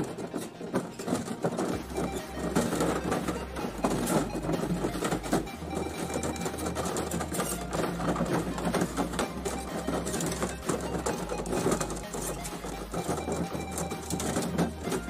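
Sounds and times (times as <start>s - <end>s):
copper tubing clinking and scraping: 0.0s - 15.0s.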